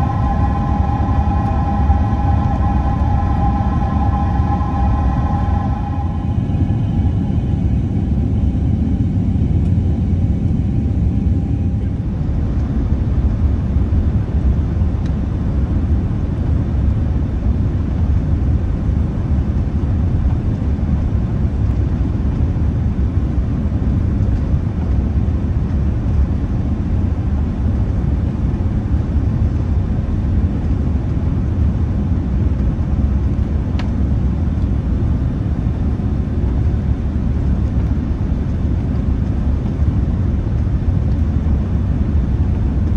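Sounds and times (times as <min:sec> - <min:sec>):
airliner cabin noise: 0:00.0 - 0:42.9.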